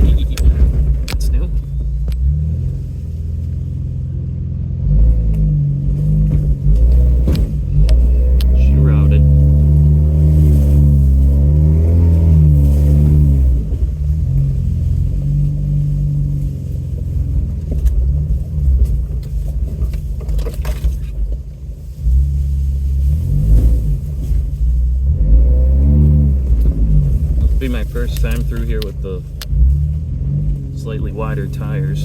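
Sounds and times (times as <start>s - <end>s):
truck engine pulling at low speed: 0.0s - 32.0s.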